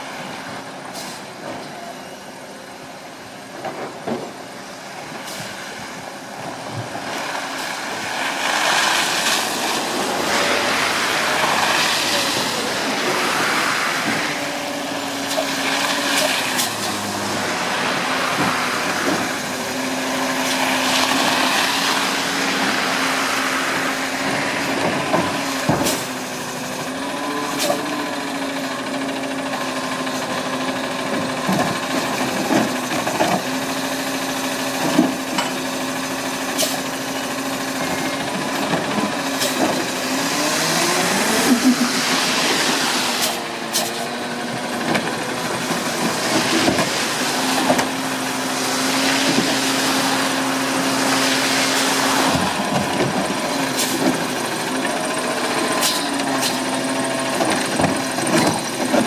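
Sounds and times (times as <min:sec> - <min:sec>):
garbage truck engine hum: 0:00.0 - 0:59.0.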